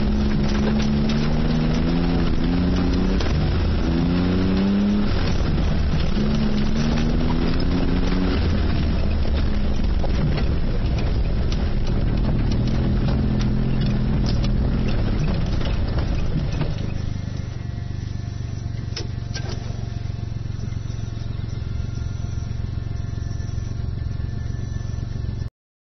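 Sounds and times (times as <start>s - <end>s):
small car engine revving: 0.0s - 25.5s.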